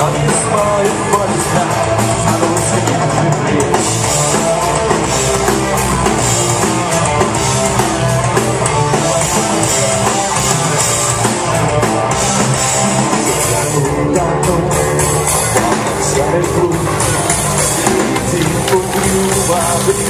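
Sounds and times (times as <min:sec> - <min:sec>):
bass guitar: 0:00.0 - 0:20.0
drum kit: 0:00.0 - 0:20.0
electric guitar: 0:00.0 - 0:20.0.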